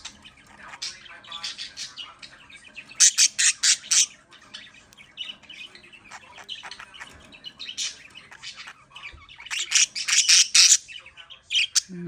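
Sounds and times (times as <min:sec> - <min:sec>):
budgies squawking and chirping: 0:00.0 - 0:12.0.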